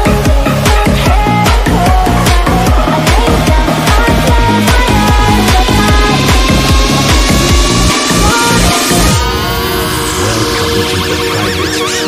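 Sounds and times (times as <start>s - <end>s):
heavy bass beat: 0.0s - 12.0s
loud electronic music: 0.0s - 12.0s.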